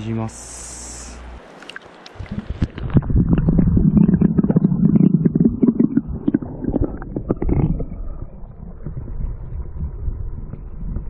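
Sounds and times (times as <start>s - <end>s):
underwater stream rushing: 1.4s - 11.0s.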